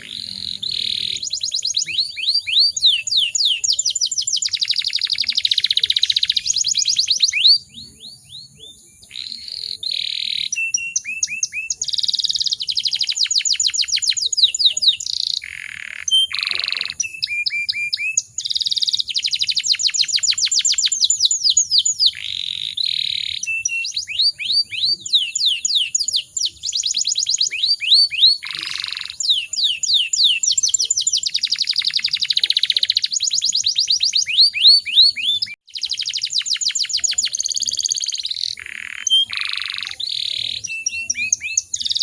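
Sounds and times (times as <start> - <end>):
canary singing fast trills: 0.0 - 42.0.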